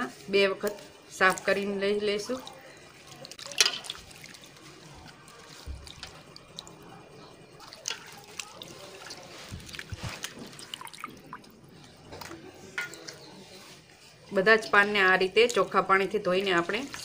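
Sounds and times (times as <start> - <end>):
washing leaves in bowl of water: 0.0 - 17.0.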